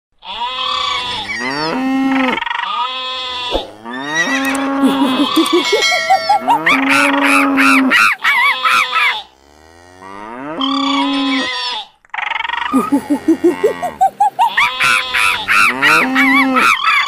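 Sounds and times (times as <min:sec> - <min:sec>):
cartoon cow moos: 0:00.2 - 0:05.7, 0:06.3 - 0:11.9, 0:12.7 - 0:16.9
honking animal calls: 0:00.2 - 0:17.0.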